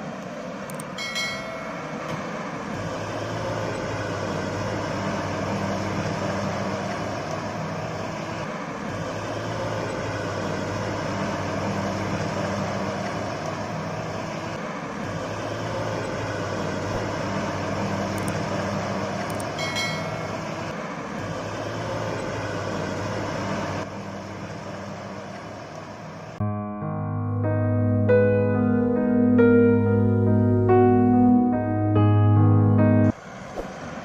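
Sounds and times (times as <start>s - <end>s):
engine droning: 0.0s - 26.4s, 28.1s - 34.0s.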